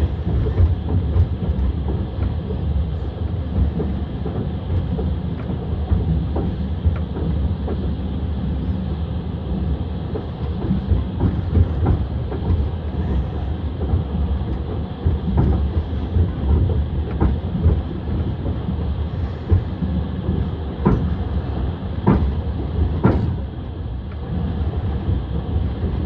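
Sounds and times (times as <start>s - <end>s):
train wheels rumbling and clacking: 0.0s - 26.0s.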